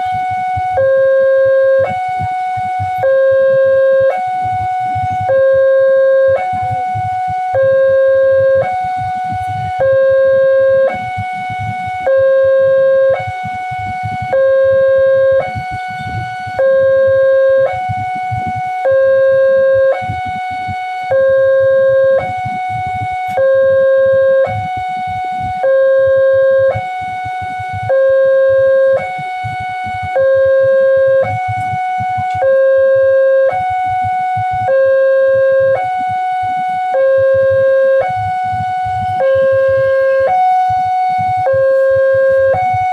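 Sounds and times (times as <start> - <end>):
level crossing two-tone alarm: 0.0 - 42.9.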